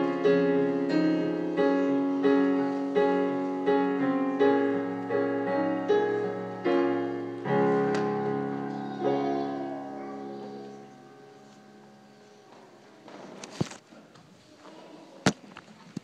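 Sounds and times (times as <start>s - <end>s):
piano chords: 0.0s - 13.5s.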